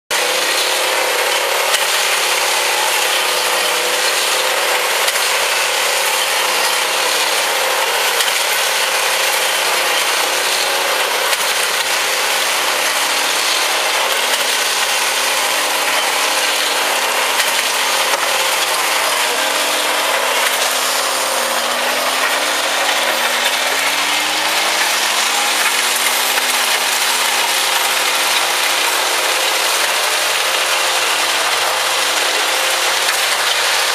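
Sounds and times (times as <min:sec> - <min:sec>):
diesel engines: 0:00.1 - 0:33.9
mechanical clatter on stones: 0:00.6 - 0:33.9.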